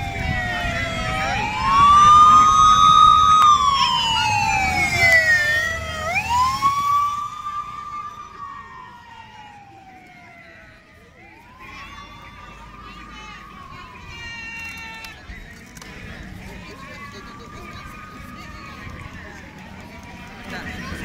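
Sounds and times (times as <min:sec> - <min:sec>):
motorcycle engines rumbling: 0:00.0 - 0:21.0
police motorcycle siren wailing: 0:00.0 - 0:21.0.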